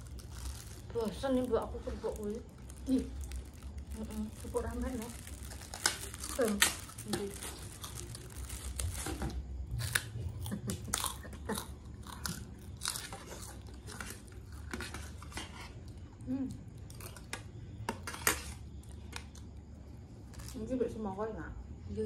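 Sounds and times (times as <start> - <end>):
crunchy crackers being chewed: 0.0 - 20.7.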